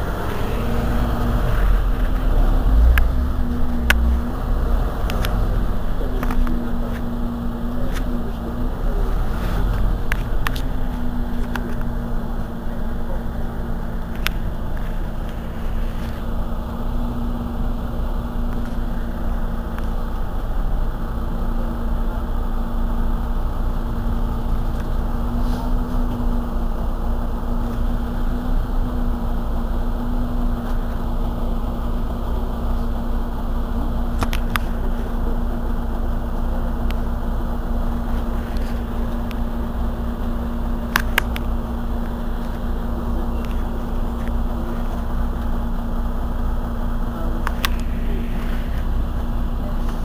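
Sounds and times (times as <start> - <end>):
bus engine idling: 0.0 - 50.0.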